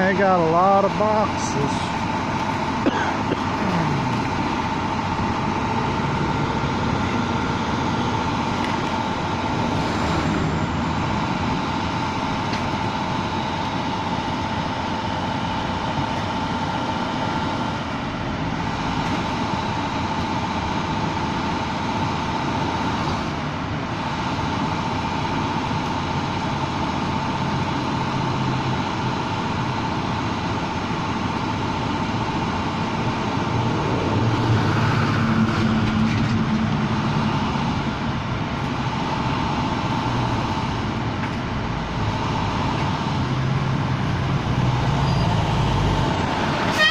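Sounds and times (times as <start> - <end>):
constant whine: 0.0 - 46.9
garbage truck engine rumble: 0.0 - 46.9.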